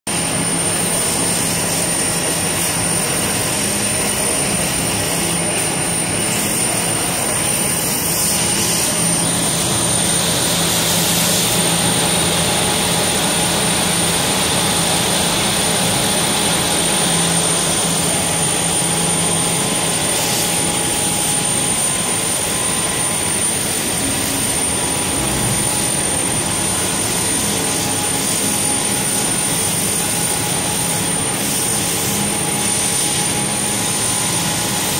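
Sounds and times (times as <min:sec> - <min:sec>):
constant high whine: 0:00.1 - 0:34.9
mechanical rush of motors and air: 0:00.1 - 0:34.9.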